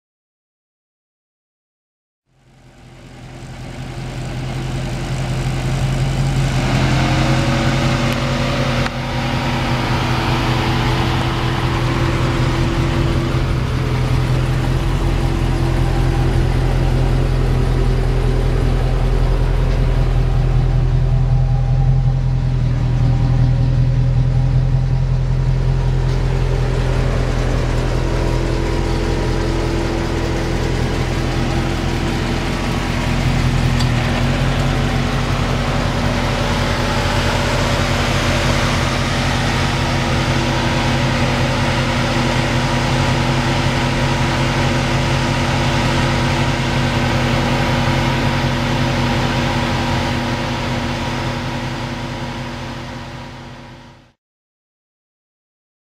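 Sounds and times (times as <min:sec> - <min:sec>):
car engine idling: 0:02.3 - 0:54.2.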